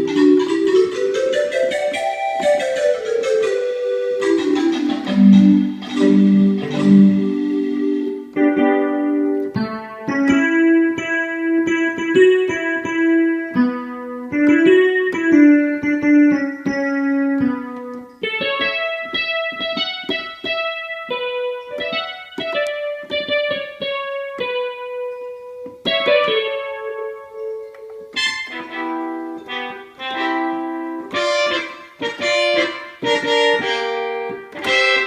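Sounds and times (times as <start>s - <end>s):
electric piano keyboard melody: 0.0s - 35.0s.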